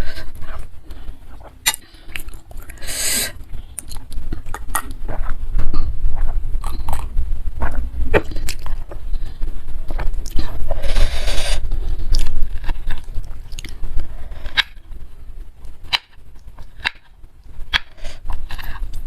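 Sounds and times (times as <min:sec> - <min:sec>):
chewing food: 0:00.0 - 0:14.8, 0:15.6 - 0:19.0.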